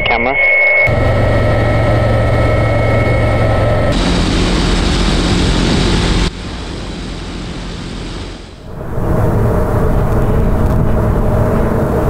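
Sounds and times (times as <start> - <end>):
helicopter rotor drone: 0.0 - 12.0
small propeller drone engine: 0.9 - 12.0.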